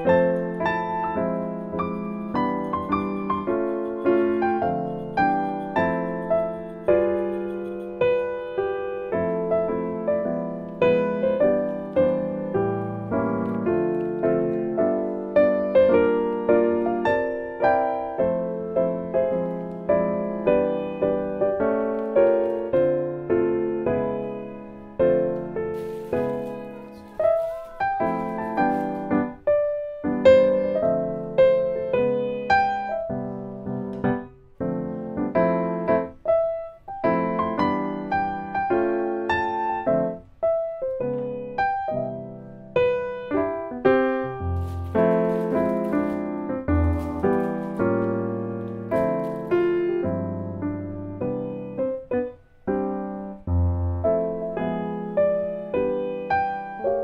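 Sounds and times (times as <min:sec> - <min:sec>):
gentle piano melody: 0:00.0 - 0:57.0.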